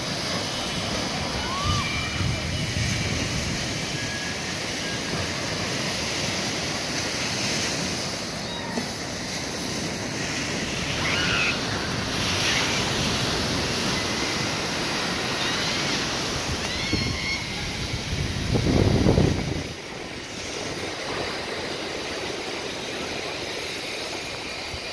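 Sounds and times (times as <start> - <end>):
wind buffeting microphone: 0.0 - 11.0, 11.6 - 24.9
surf breaking on beach: 0.0 - 24.9.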